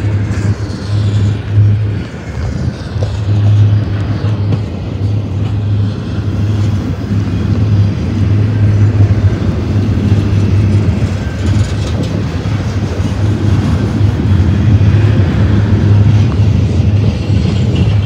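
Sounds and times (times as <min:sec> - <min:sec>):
freight train wheels rumbling on rails: 0:00.0 - 0:18.0.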